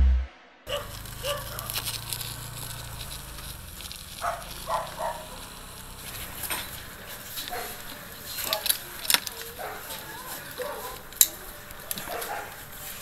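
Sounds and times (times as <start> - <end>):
light crackling: 0.7 - 13.0.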